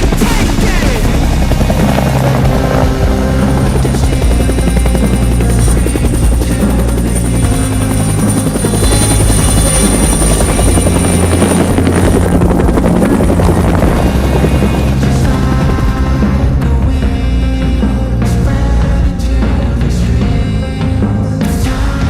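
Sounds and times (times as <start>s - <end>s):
helicopter rotor chop: 0.0s - 22.0s
rock music: 0.0s - 22.0s.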